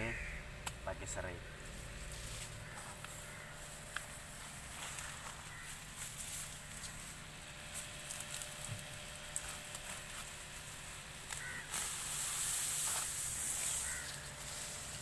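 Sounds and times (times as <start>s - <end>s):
leaves rustling and swishing: 1.6s - 15.0s.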